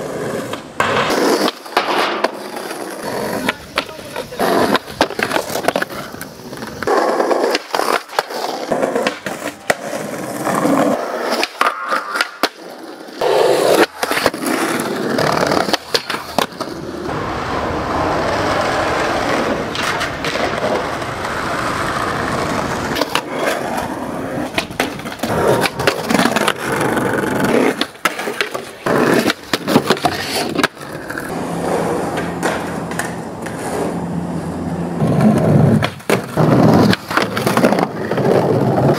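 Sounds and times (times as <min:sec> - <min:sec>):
skateboard clacks and landings: 0:00.0 - 0:38.9
skateboard scraping on log: 0:00.0 - 0:38.9
skateboard wheels rolling on pavement: 0:00.0 - 0:38.9.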